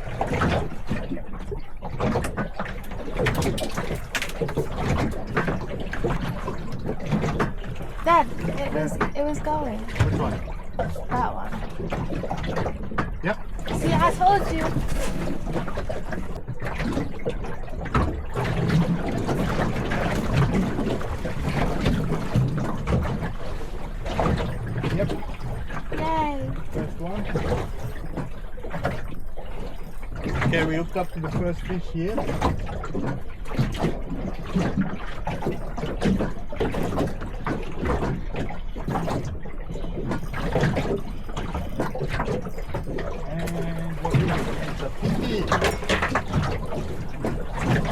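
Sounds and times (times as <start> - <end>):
knocks and splashes: 0.0 - 47.9
water lapping against boat hull: 0.0 - 47.9.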